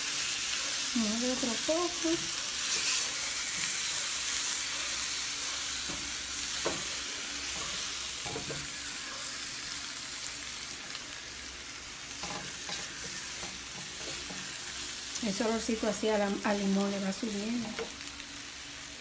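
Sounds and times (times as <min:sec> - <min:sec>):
potatoes sizzling in a frying pan: 0:00.0 - 0:19.0.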